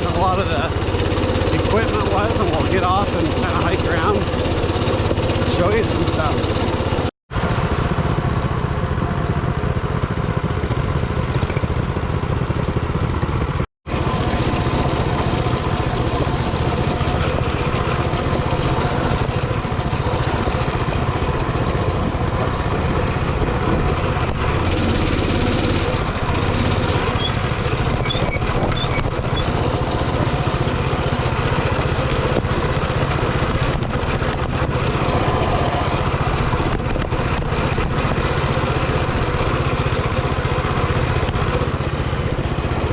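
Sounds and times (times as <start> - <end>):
mini bike engine running: 0.0 - 42.9.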